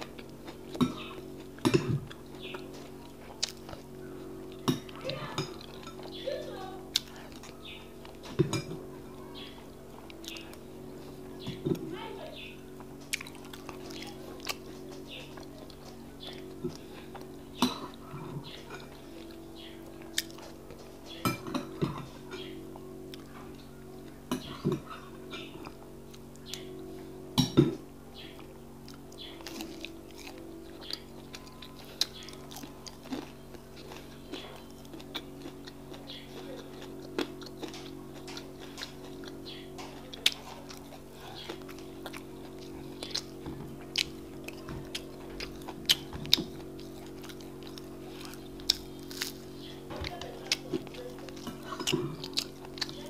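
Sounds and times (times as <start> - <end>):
chewing and mouth clicks: 0.0 - 6.2, 6.9 - 8.8, 9.4 - 11.8, 12.4 - 26.8, 28.2 - 53.0
steady low hum: 0.0 - 53.0.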